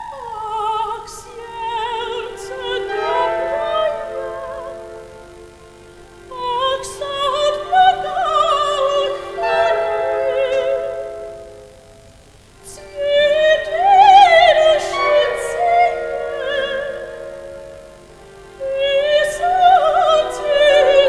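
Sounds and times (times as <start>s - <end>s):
operatic soprano singing: 0.0s - 12.0s, 12.6s - 21.0s.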